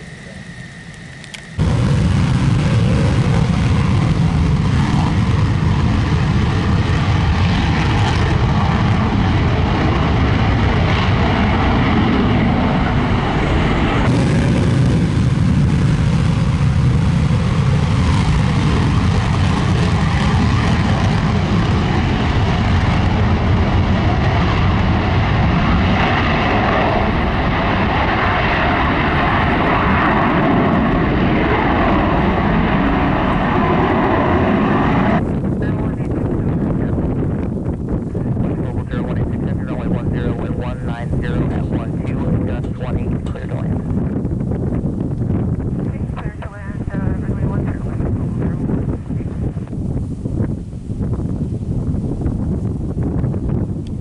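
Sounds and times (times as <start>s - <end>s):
jet afterburner roar: 0.0s - 54.0s.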